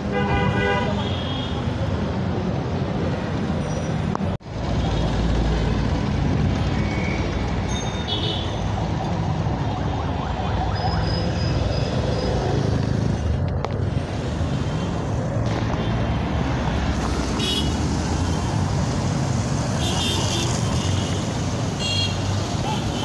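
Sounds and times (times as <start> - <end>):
motor traffic: 0.0 - 23.0
wheels rumbling on road: 1.1 - 23.0.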